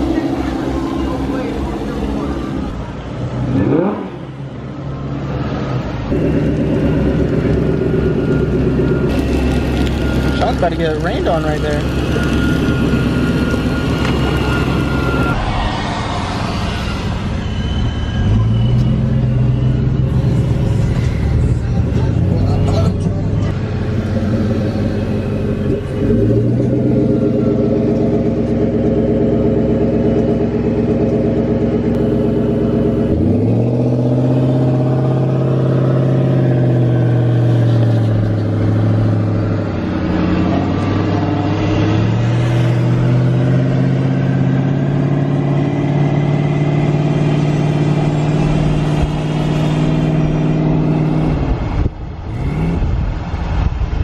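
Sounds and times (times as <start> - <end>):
car engine revving: 0.0 - 53.7.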